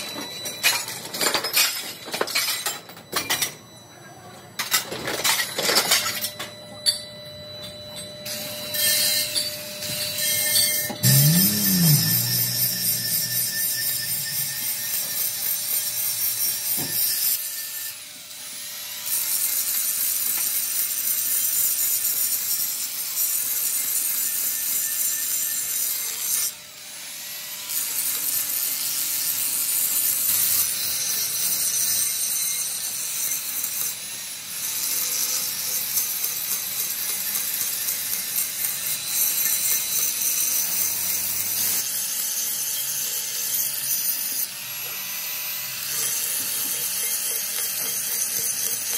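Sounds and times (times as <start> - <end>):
angle grinder grinding metal: 7.6 - 48.9.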